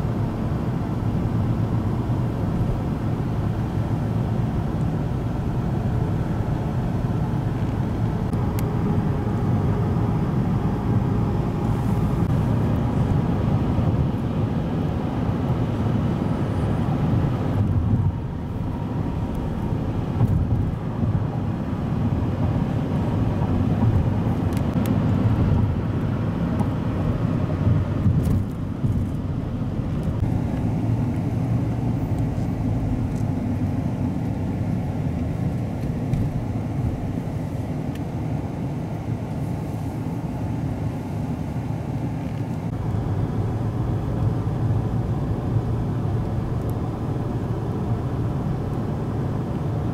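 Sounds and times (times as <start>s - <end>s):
low vehicle rumble: 0.0s - 49.9s.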